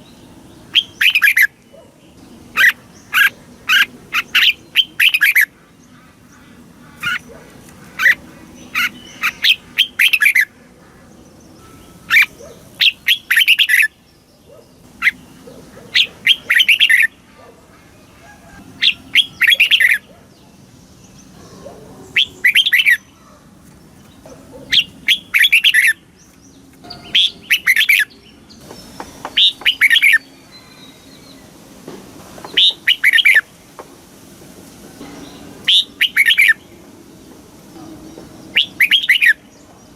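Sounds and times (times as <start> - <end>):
bird singing warbled phrases: 0.0 - 31.6, 32.4 - 33.6, 35.1 - 36.9, 37.6 - 39.9.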